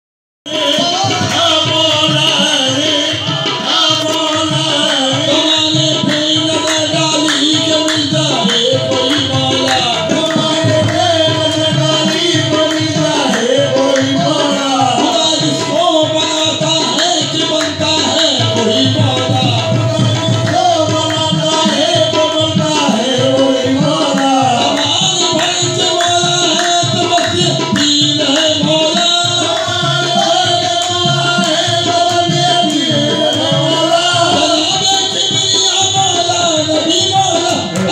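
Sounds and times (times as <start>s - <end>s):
tabla rhythm: 0.4s - 37.9s.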